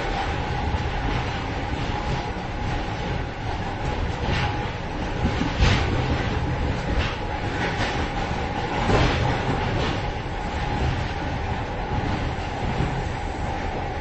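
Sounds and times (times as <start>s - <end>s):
clanks and rattles: 0.0s - 13.9s
train wheels rumbling on rails: 0.0s - 14.0s.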